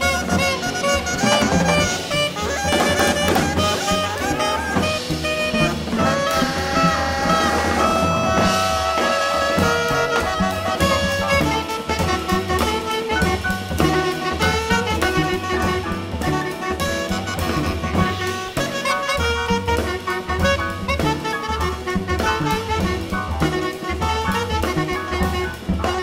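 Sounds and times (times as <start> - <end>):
alto saxophone: 0.0 - 26.0
bass clarinet: 0.0 - 26.0
drum kit: 0.0 - 26.0
piano: 0.0 - 26.0.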